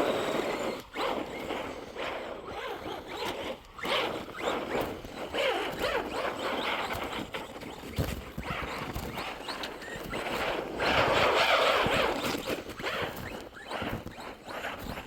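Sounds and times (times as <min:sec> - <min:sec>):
tyres churning through snow: 0:00.0 - 0:15.0.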